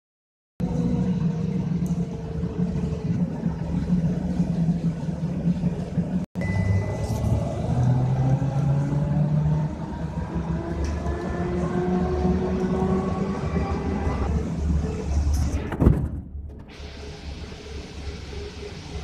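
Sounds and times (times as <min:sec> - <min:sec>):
trolleybus interior hum: 0:00.6 - 0:19.0.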